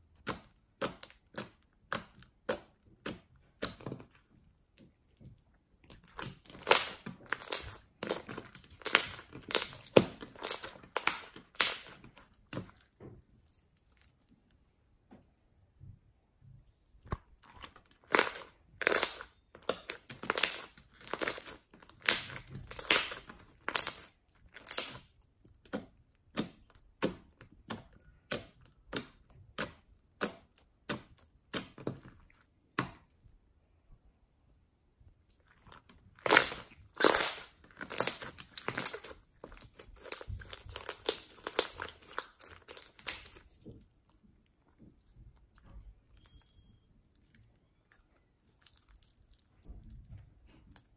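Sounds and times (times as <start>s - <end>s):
slime crackling and popping: 0.0s - 4.2s, 5.9s - 14.3s, 17.0s - 33.1s, 35.3s - 44.6s, 45.4s - 50.9s.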